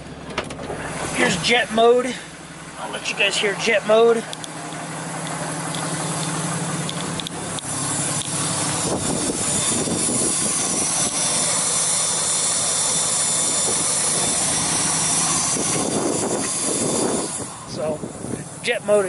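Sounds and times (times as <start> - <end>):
diesel engine idle hum: 0.0 - 19.0
diesel exhaust whooshing hiss: 0.0 - 19.0.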